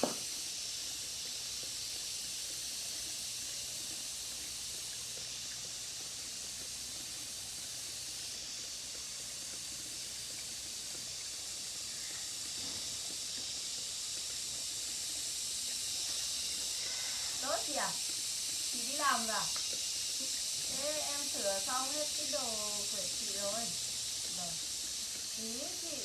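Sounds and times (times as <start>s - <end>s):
high-pitched hiss: 0.0s - 26.0s.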